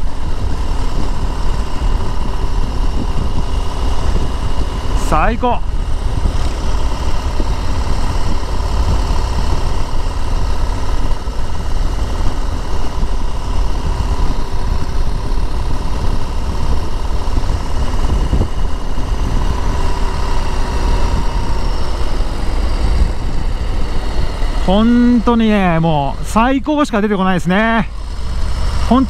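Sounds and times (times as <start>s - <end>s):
wind rumble on microphone: 0.0s - 26.9s
motorcycle engine running: 0.0s - 29.0s.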